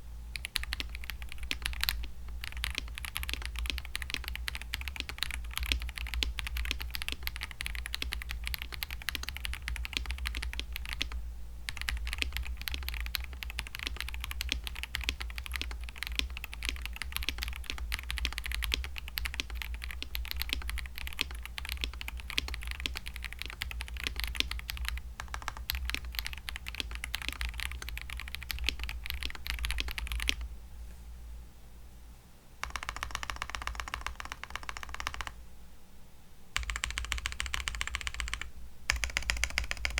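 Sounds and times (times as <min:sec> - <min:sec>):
mechanical keyboard typing: 0:00.4 - 0:30.4, 0:32.6 - 0:35.4, 0:36.6 - 0:39.9.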